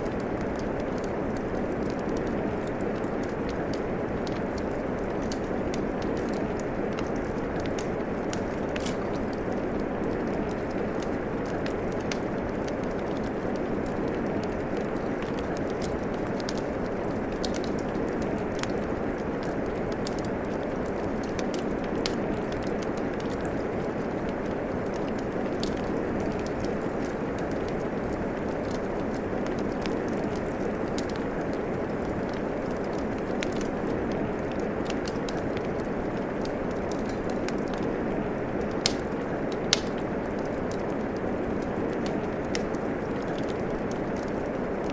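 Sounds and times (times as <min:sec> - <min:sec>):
sharp fire pops and snaps: 0:00.0 - 0:44.9
steady rain falling: 0:00.0 - 0:44.9
wood fire crackling: 0:00.0 - 0:44.9.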